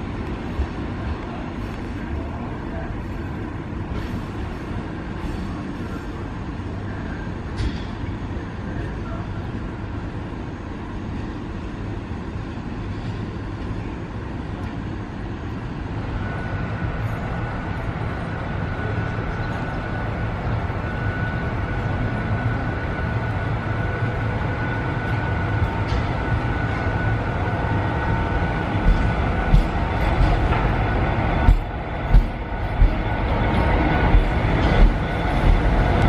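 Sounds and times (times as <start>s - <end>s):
train coaches rumbling past: 0.0s - 36.0s.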